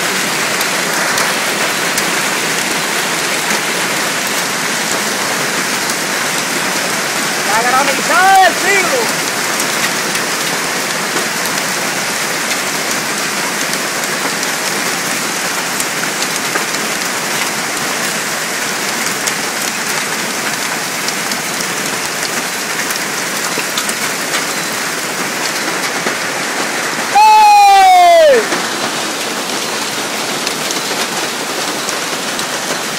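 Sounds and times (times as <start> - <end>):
hail and rain pattering: 0.0 - 32.9
hailstones ticking: 0.0 - 32.9.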